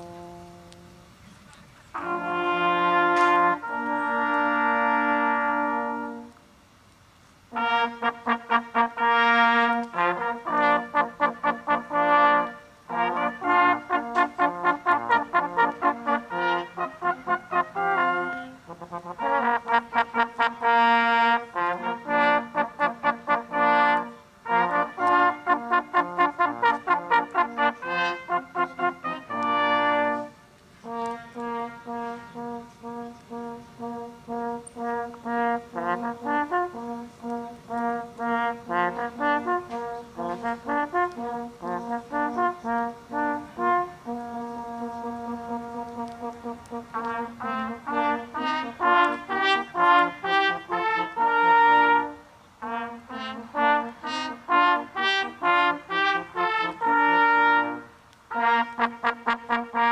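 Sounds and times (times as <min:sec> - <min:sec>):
brass music: 0:00.0 - 0:01.2, 0:01.9 - 0:06.4, 0:07.5 - 0:59.9.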